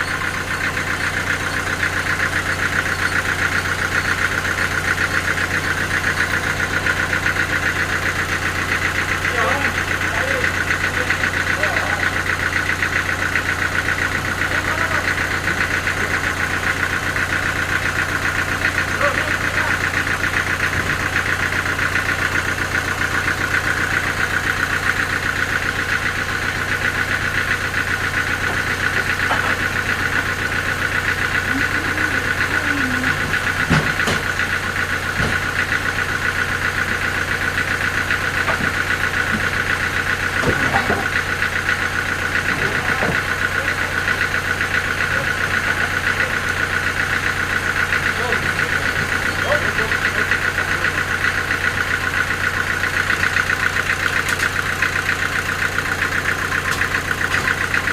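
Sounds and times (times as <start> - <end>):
sawmill engine running: 0.0 - 57.9.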